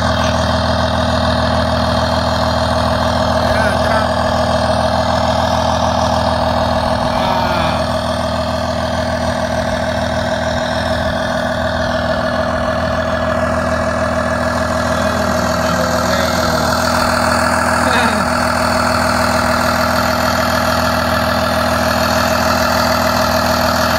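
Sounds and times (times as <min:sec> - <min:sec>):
truck engine idling: 0:00.0 - 0:23.9.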